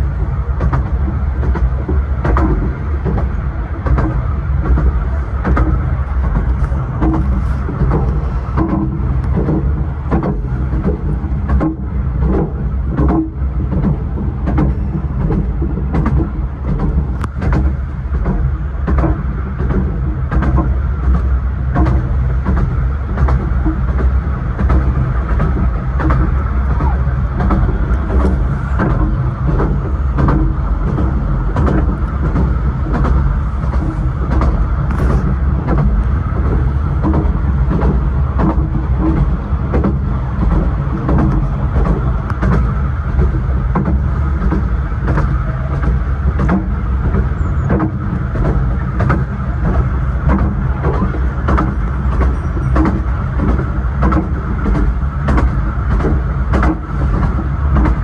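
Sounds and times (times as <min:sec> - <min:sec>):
railway carriage rumbling: 0:00.0 - 0:58.0
wheels clicking on rails: 0:00.0 - 0:58.0.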